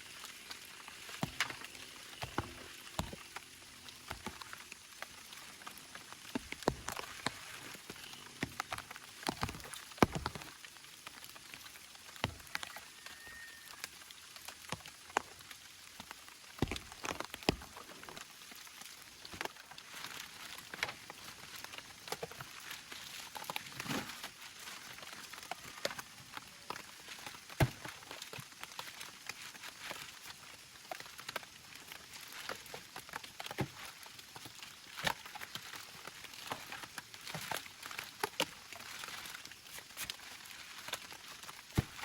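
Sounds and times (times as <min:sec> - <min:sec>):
rain pattering: 0:00.0 - 0:42.0.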